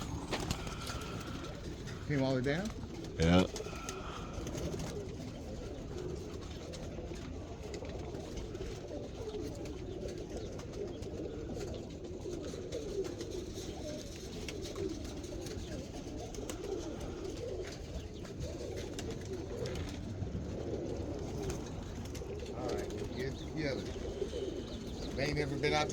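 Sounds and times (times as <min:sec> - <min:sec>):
pigeons cooing: 0:00.0 - 0:25.9.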